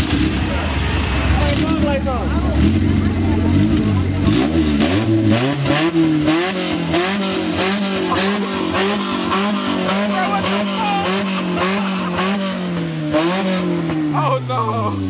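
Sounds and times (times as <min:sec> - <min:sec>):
small car engine revving: 0:00.0 - 0:15.0.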